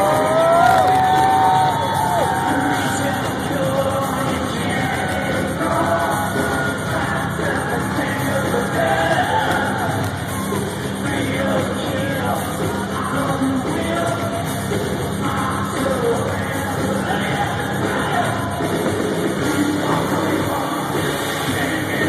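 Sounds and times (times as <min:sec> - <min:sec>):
live rock band: 0:00.0 - 0:22.0
person singing: 0:00.0 - 0:22.0.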